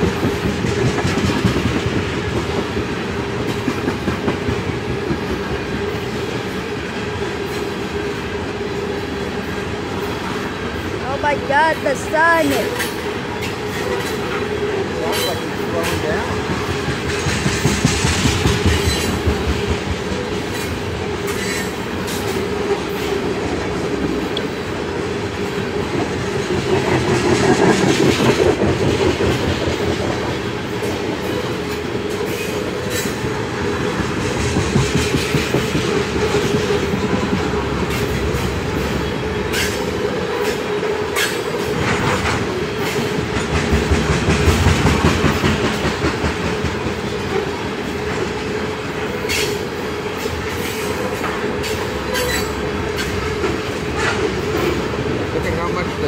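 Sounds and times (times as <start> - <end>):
freight train wheels clattering: 0.0 - 10.9, 11.5 - 56.0.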